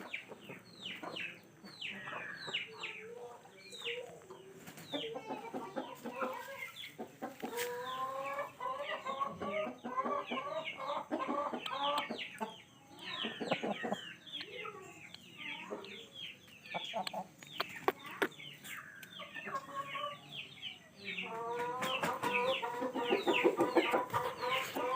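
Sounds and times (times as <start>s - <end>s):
chickens clucking and calling: 0.0s - 24.9s.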